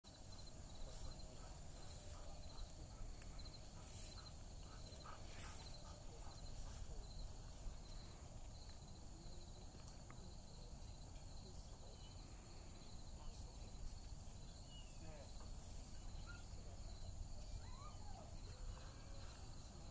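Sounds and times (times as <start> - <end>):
insect buzz: 0.1 - 17.5
crickets trilling: 0.1 - 19.9.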